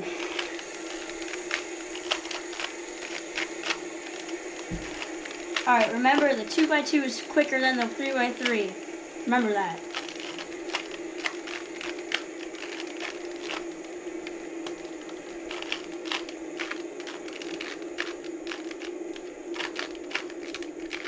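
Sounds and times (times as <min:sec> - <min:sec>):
steady low hum: 0:00.0 - 0:21.0
puzzle cube clicking: 0:00.2 - 0:06.7, 0:09.8 - 0:21.0.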